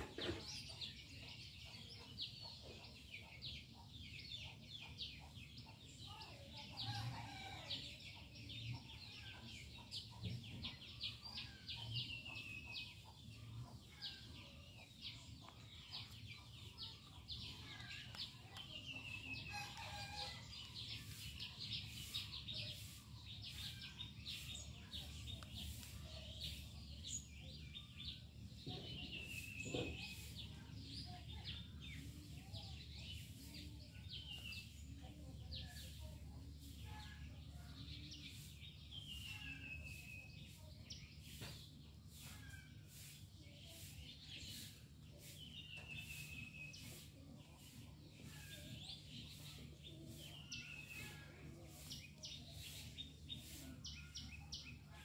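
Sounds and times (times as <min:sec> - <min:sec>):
birds chirping: 0:09.4 - 0:55.0.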